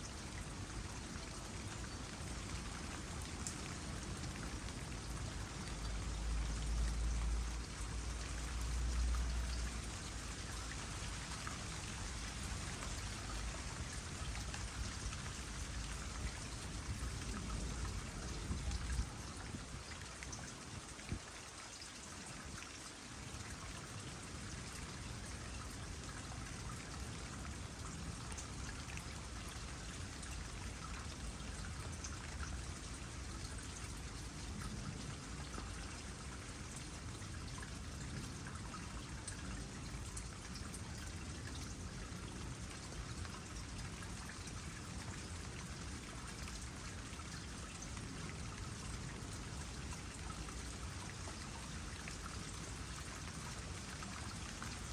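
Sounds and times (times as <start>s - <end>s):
raindrops on water: 0.0s - 54.9s
water trickling into a pond: 0.0s - 54.9s.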